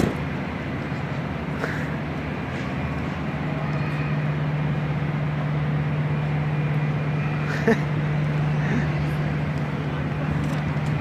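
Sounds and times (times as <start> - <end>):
engine hum: 0.0 - 11.0.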